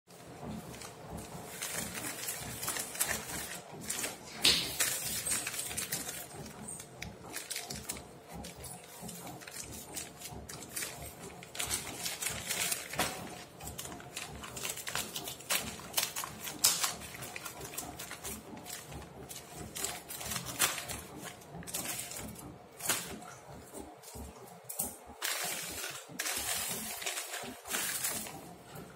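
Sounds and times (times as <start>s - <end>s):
plastic mailer crinkling: 0.2s - 24.2s, 24.8s - 28.9s.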